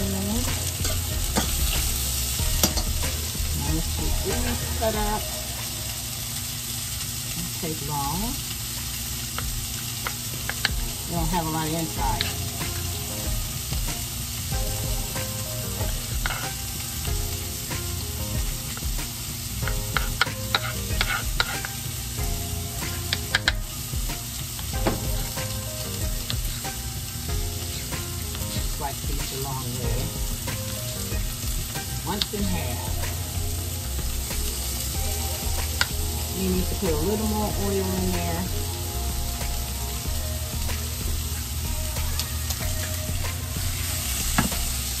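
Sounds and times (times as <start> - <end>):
food sizzling in a pan: 0.0 - 45.0.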